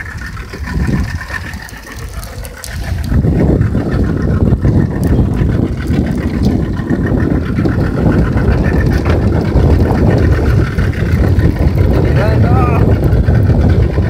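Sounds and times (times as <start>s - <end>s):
outboard motor rumbling: 0.0s - 14.0s
water noise: 0.0s - 14.0s
wind: 0.0s - 14.0s.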